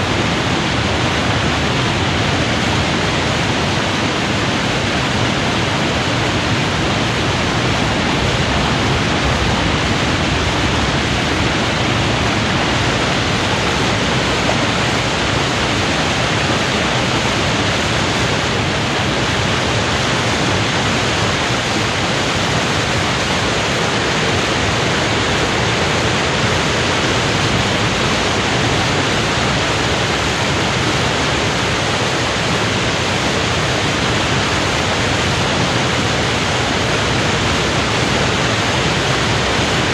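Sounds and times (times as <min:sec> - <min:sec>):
water rushing over weir: 0:00.0 - 0:39.9.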